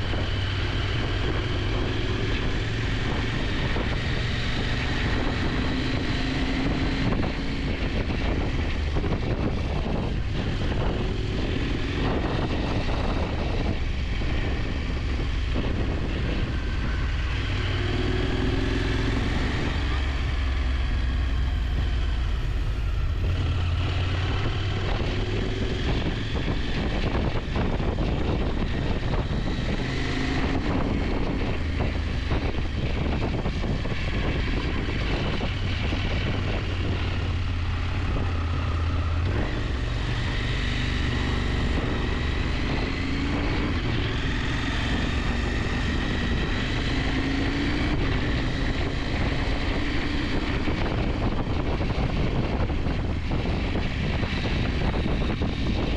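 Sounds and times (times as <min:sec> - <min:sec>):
motorcycle engine running: 0:00.0 - 0:55.9
wind rushing: 0:00.0 - 0:55.9.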